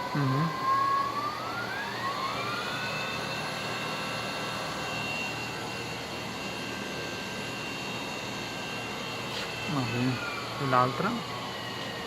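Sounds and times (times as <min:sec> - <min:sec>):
constant mechanical hum: 0:00.0 - 0:12.0
grinder motor whine: 0:00.0 - 0:12.0.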